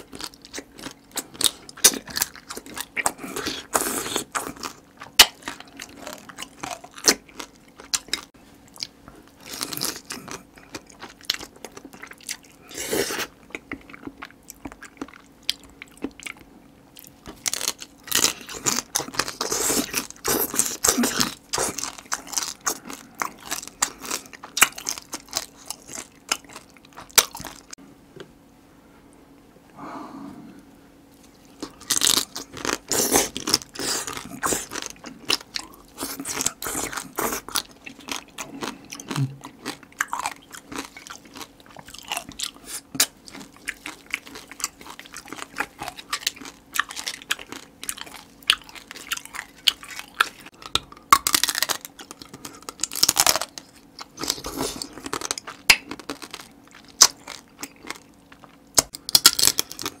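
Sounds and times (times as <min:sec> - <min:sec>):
wet chewing and crunching: 0:00.0 - 0:27.8, 0:31.1 - 1:00.0.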